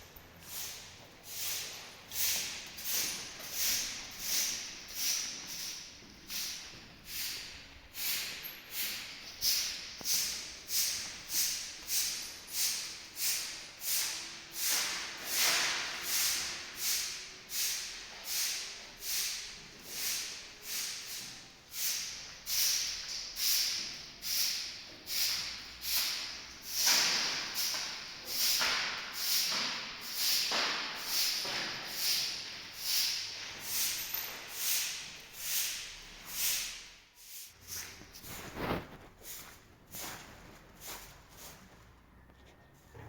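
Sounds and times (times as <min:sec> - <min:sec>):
broom sweeping: 0:00.4 - 0:41.9.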